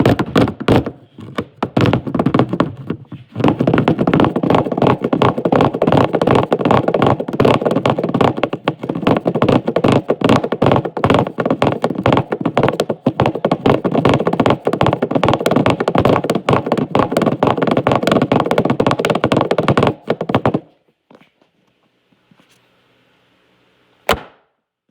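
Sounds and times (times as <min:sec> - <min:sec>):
rapid tapping and scratching: 0:00.0 - 0:20.8.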